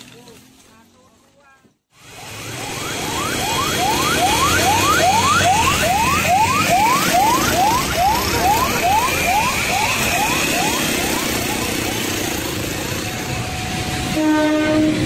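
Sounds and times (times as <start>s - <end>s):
ambulance siren yelping: 2.0s - 15.0s.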